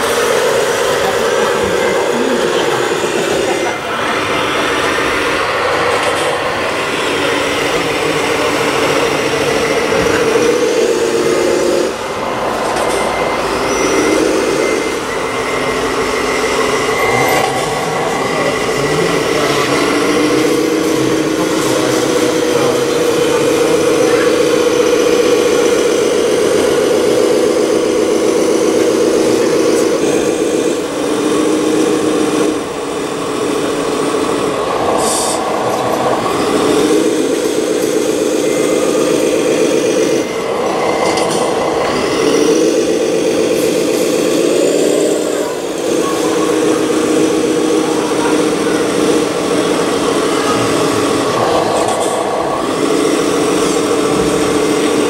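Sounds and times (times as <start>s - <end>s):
toy truck motor humming: 0.0s - 55.0s.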